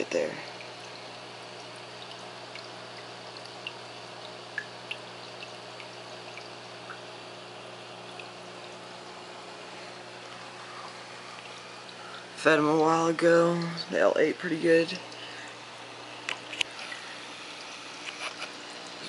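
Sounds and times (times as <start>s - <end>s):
pump electrical hum: 0.0s - 19.0s
water pouring and trickling: 0.0s - 19.0s.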